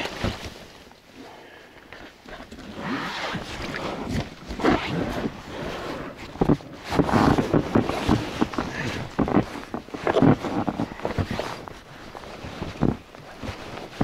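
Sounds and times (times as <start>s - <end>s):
raft fabric rubbing and scraping: 2.3s - 14.0s.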